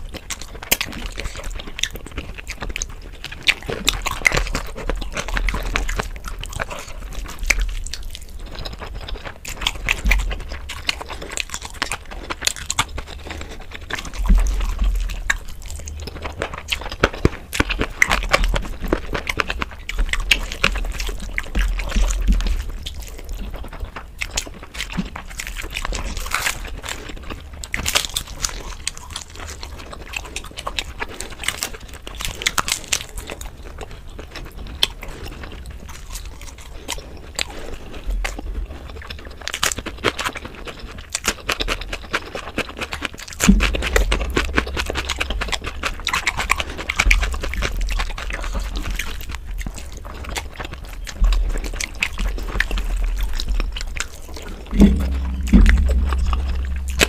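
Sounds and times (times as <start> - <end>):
chewing and lip smacks: 0.0 - 57.0.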